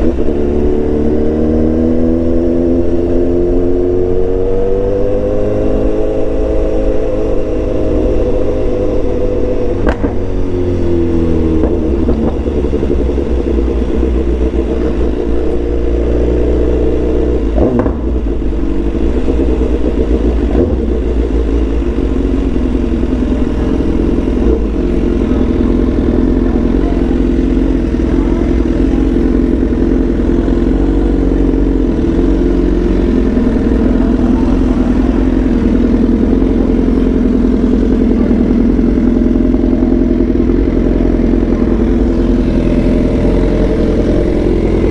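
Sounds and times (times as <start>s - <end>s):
motorcycle engine running: 0.0s - 44.9s
low rumble: 8.2s - 44.9s.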